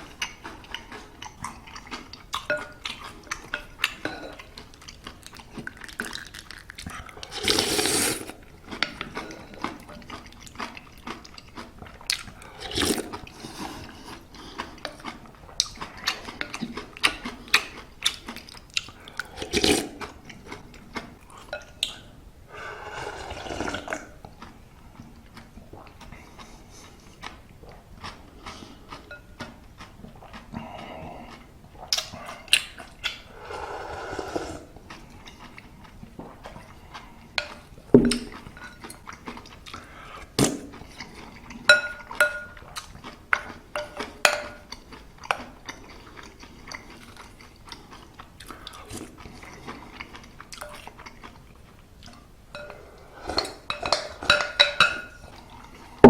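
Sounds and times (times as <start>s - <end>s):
granola being chewed: 0.0s - 22.1s, 23.7s - 33.3s, 34.6s - 54.4s.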